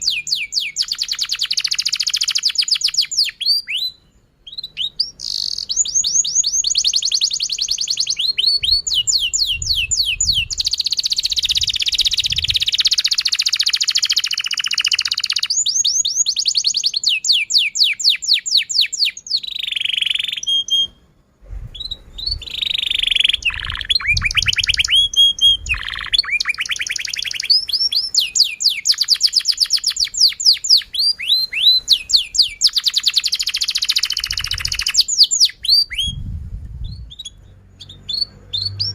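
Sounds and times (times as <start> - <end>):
canary singing trills: 0.0 - 21.0, 21.8 - 36.2, 36.9 - 38.9.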